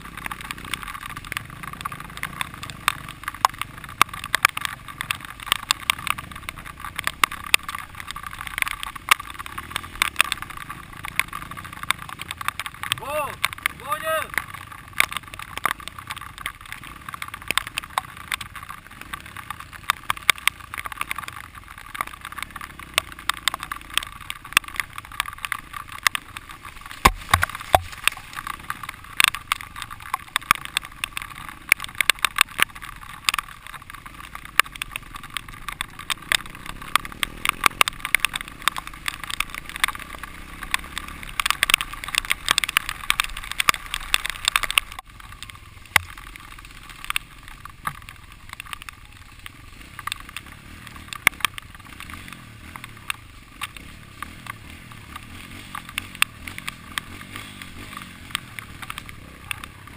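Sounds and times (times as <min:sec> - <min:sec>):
faint dirt bike engine: 0:00.0 - 0:59.9
rattling and knocking of dirt bike: 0:00.0 - 0:59.9.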